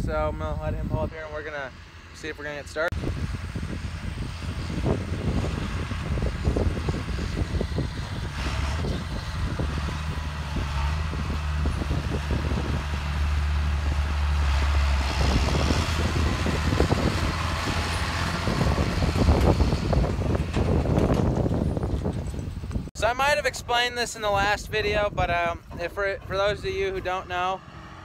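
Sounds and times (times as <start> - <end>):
farm machinery engine droning: 0.0 - 28.0.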